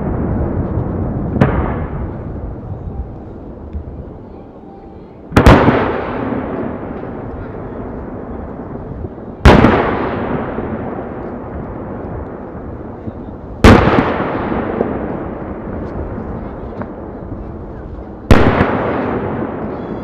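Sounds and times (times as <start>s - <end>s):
firework shells booming: 0.0s - 2.6s, 5.3s - 17.2s, 18.2s - 20.0s
rolling echo: 0.0s - 20.0s.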